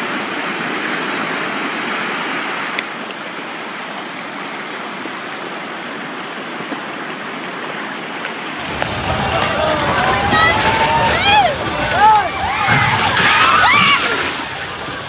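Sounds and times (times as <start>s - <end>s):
rushing churning water: 0.0s - 15.0s.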